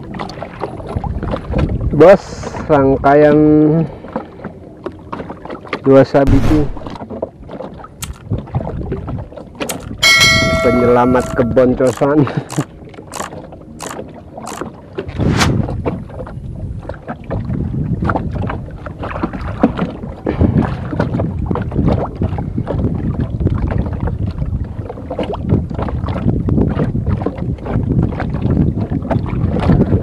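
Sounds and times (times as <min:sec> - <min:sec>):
wind buffeting microphone: 0:00.0 - 0:03.6, 0:06.2 - 0:12.6, 0:15.0 - 0:30.0
water sloshing and splashing: 0:00.0 - 0:10.5, 0:11.5 - 0:30.0.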